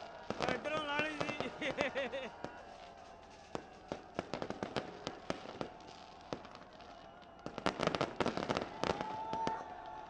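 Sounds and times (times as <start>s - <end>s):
fireworks crackling bangs: 0.0s - 10.0s.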